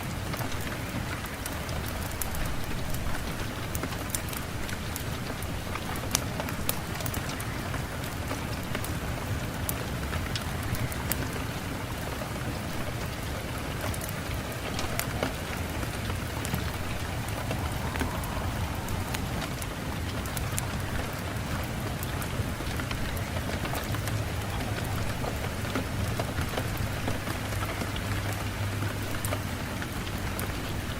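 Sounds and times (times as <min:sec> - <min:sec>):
rain hissing: 0:00.0 - 0:30.9.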